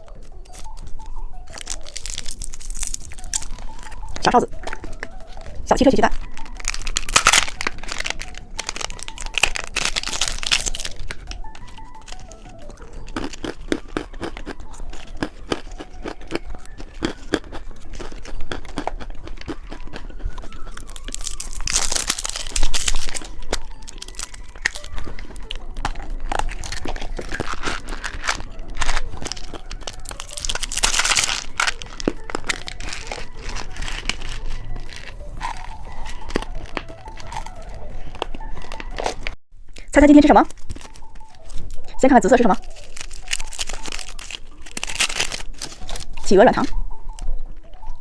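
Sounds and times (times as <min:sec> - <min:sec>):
candy wrapper crinkling: 0:00.0 - 0:48.0.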